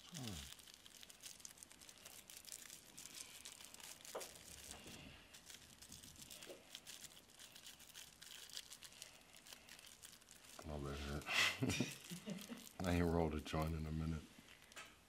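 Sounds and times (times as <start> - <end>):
rolling paper crinkling: 0.0 - 14.8.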